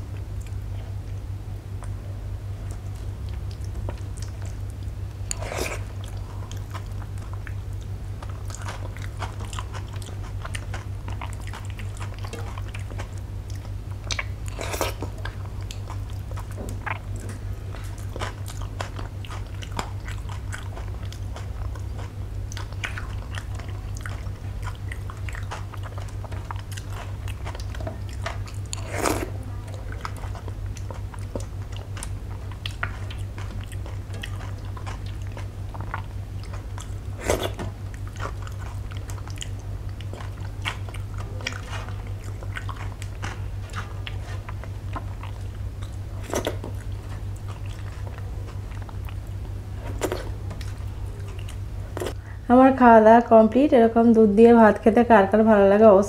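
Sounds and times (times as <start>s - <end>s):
steady low hum: 0.0s - 56.0s
wet chewing: 2.6s - 52.3s.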